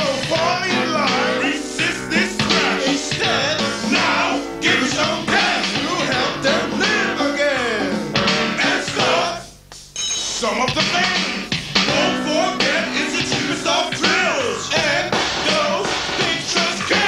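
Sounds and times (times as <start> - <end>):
rock song with singing and guitar: 0.0 - 9.6, 10.2 - 17.0.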